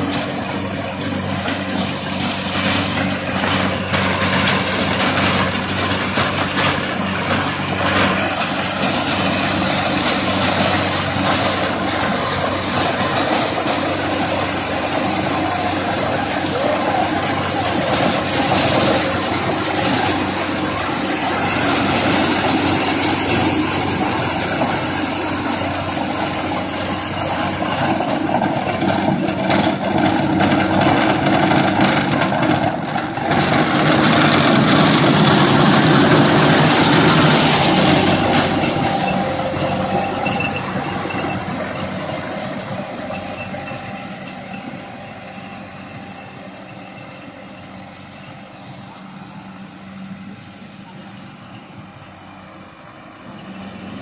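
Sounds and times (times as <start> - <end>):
mulcher shredding straw: 0.0 - 54.0
tractor diesel engine under load: 0.0 - 54.0.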